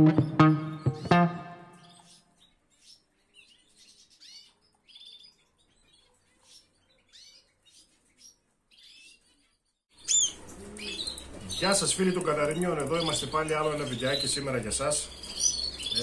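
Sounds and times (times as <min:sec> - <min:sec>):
canaries chirping: 0:00.0 - 0:16.0.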